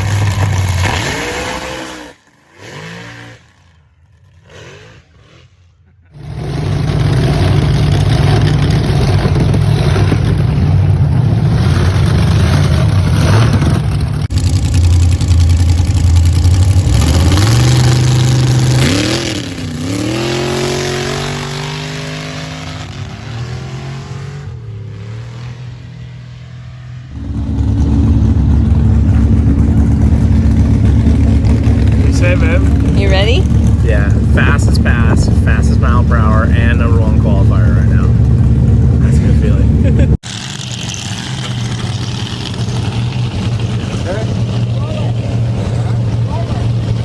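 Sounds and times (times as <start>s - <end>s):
drag racing car engine accelerating: 0.0s - 47.0s
loud steady engine close by: 0.0s - 47.0s.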